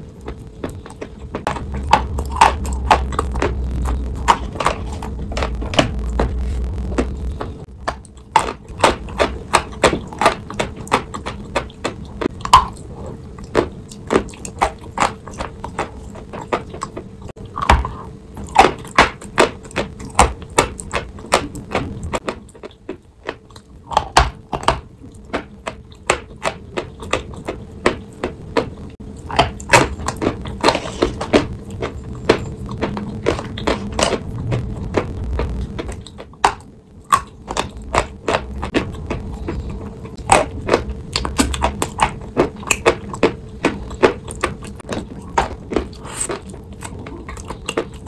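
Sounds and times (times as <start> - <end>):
chalk crunching and chewing: 0.0 - 48.0.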